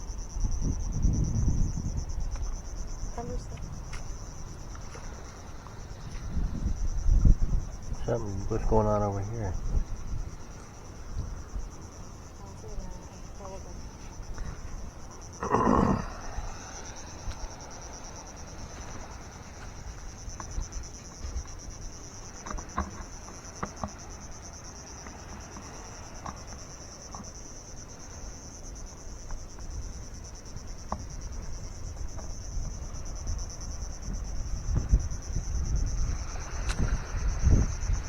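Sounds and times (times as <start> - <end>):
crickets trilling: 0.0 - 38.0
wind rumble on microphone: 0.0 - 38.0.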